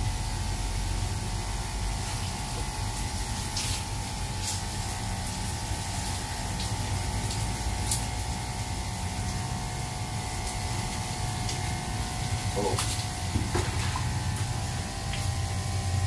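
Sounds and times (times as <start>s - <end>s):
shower hose spraying water: 0.0s - 16.0s
water pump humming: 0.0s - 16.0s.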